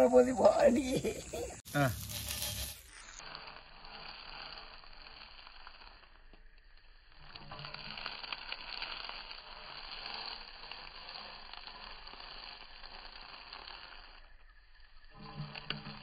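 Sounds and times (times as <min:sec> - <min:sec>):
slices frying in hot oil: 0:01.7 - 0:16.0.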